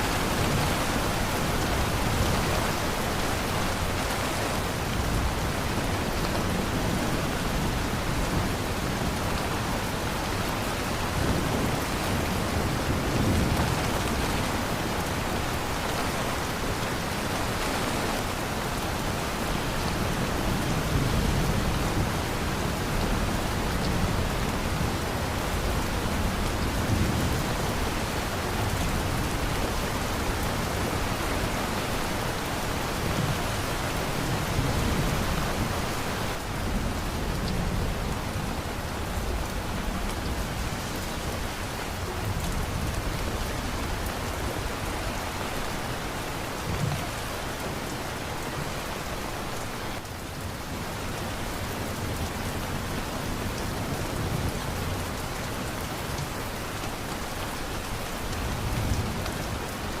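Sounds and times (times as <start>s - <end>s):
heavy rain on a surface: 0.0s - 60.0s.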